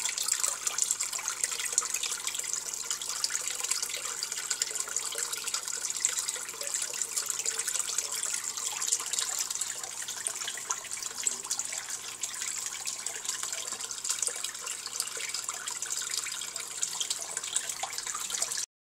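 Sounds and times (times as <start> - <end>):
water pouring into tank: 0.0 - 18.7.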